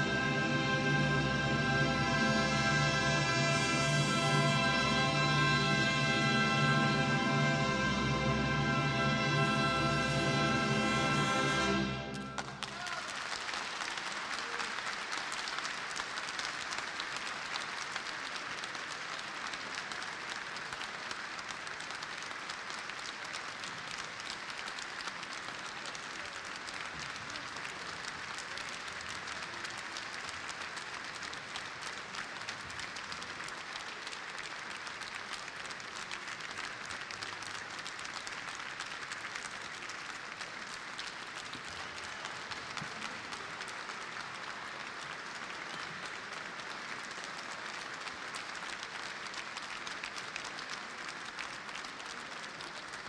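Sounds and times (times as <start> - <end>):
audience applauding: 0.0 - 53.0.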